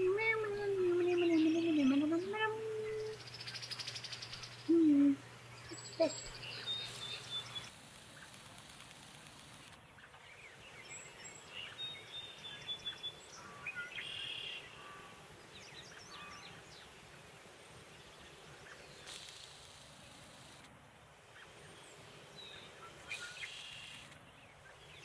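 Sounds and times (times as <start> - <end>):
songbirds chirping: 0.0 - 8.6, 9.2 - 25.0
steady outdoor hiss: 0.0 - 25.0.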